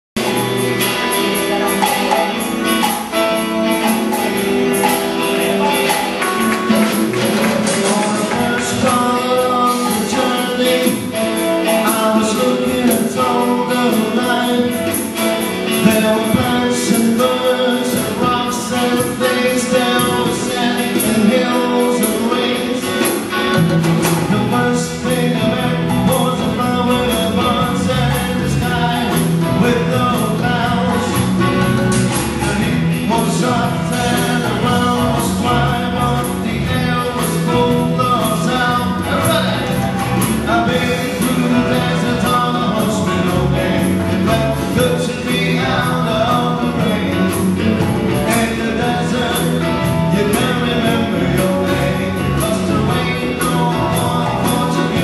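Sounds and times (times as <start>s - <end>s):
electric guitar: 0.2s - 55.0s
heavy bass: 0.2s - 55.0s
singer: 0.2s - 55.0s.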